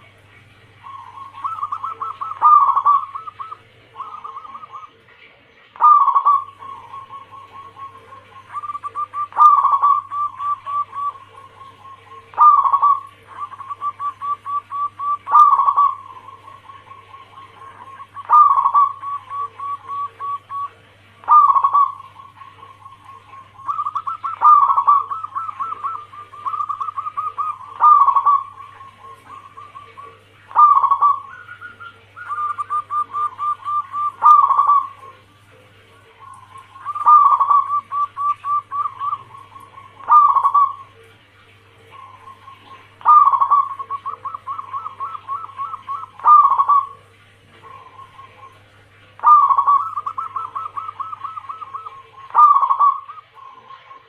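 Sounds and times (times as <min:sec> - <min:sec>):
dove cooing: 0:00.0 - 0:54.0
faint steady hum: 0:00.0 - 0:54.0.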